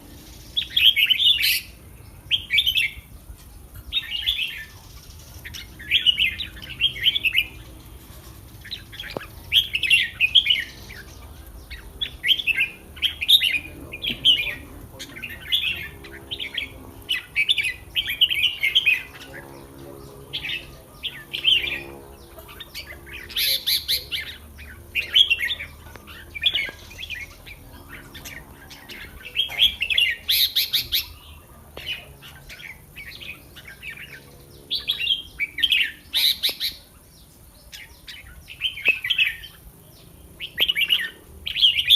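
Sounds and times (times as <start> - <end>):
birds singing chattering phrases: 0.0 - 41.9.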